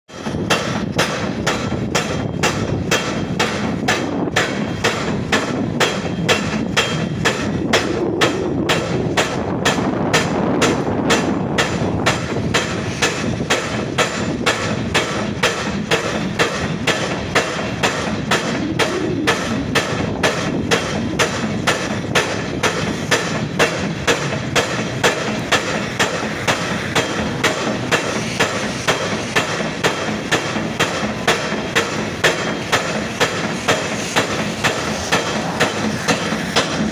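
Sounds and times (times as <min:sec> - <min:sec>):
pile-driving hammer banging steel: 0:00.1 - 0:36.9
machinery din: 0:00.2 - 0:36.9.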